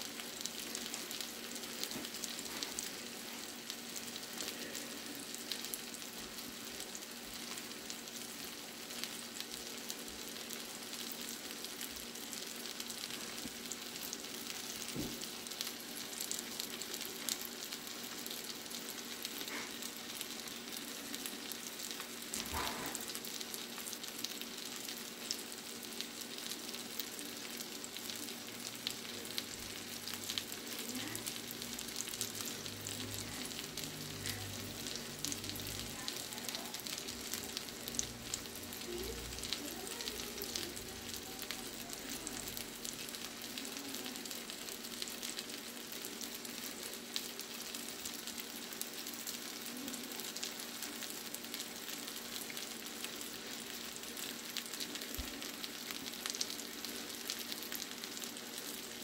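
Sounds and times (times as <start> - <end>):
fish frying in butter: 0.0 - 59.0.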